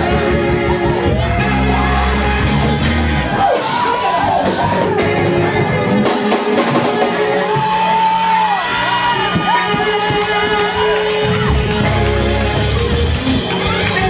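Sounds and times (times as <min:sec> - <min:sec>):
bass: 0:00.0 - 0:14.0
drum kit: 0:00.0 - 0:14.0
organ-like held chords: 0:00.0 - 0:14.0
people singing and shouting: 0:00.0 - 0:14.0.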